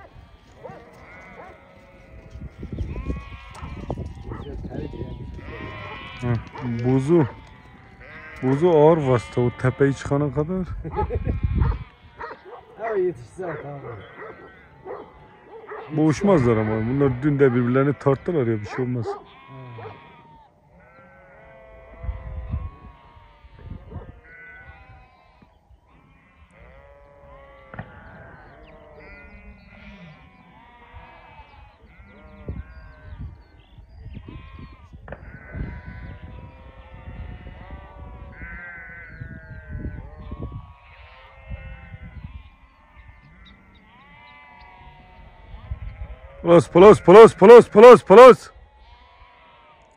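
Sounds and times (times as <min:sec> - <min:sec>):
sheep bleating: 0:00.0 - 0:49.9.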